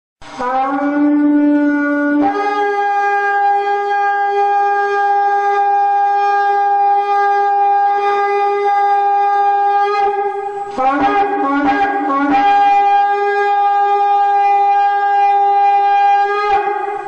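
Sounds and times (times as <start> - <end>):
shofar blast: 0.2 - 17.0.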